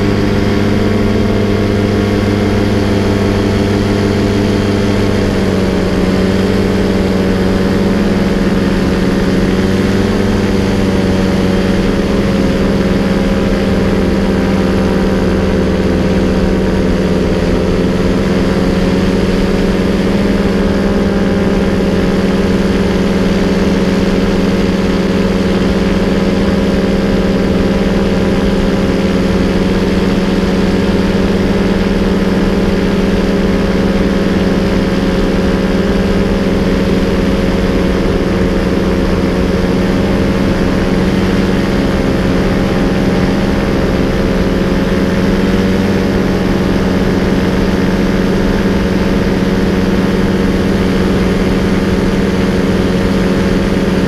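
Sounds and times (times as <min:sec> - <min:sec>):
paramotor engine droning: 0:00.0 - 0:54.0.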